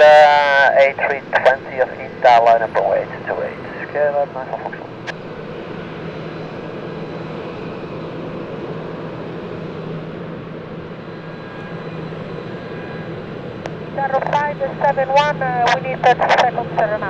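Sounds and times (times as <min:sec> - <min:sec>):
jet engines humming with whine: 0:00.0 - 0:17.0.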